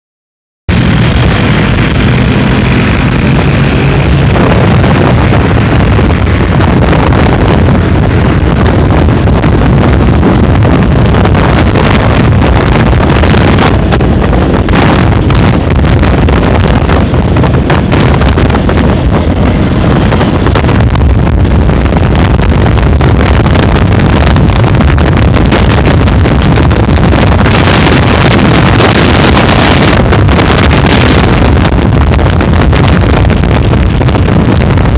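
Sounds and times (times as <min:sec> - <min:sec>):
motorcycle engine: 0:00.7 - 0:34.9
traffic road noise: 0:00.7 - 0:34.9
wind buffeting microphone: 0:00.7 - 0:34.9.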